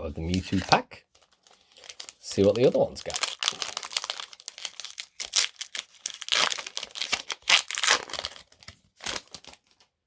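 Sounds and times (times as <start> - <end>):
foil wrapper crinkling and tearing: 0.2 - 9.9.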